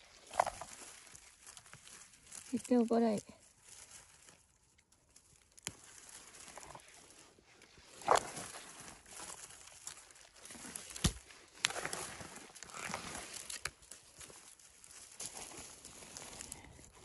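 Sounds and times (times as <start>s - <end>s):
rustling of moss and leaf litter: 0.0s - 17.0s.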